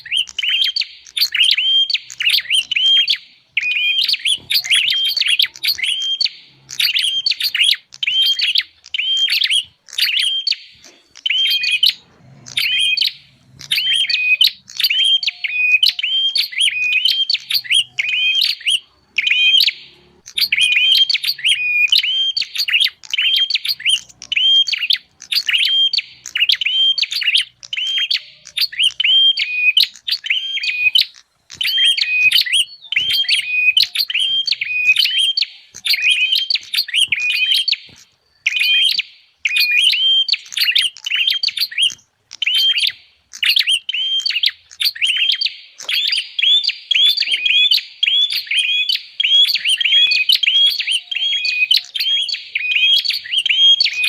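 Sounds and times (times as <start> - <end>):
bird sharp chirping notes: 0.0 - 54.0.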